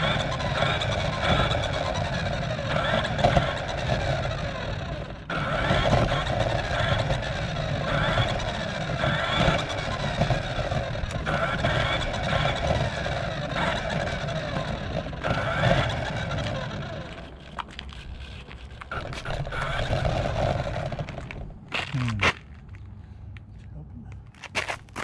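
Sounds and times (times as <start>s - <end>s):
toy car motor whining: 0.0s - 21.4s
tyres and chassis rattling: 0.0s - 25.0s.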